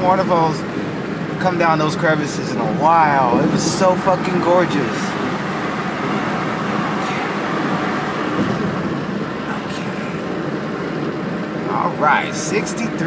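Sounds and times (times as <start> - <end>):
tyres on wet road: 0.0 - 13.0.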